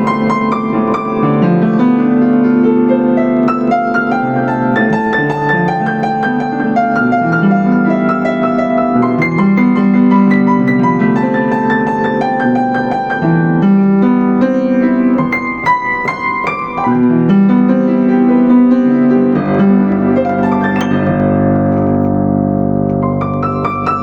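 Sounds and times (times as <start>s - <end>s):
upright piano playing: 0.0s - 24.0s.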